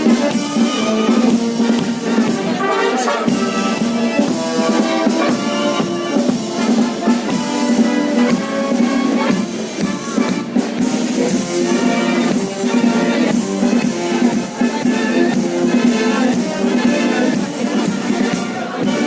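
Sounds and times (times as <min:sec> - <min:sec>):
instrumental melody: 0:00.0 - 0:19.0.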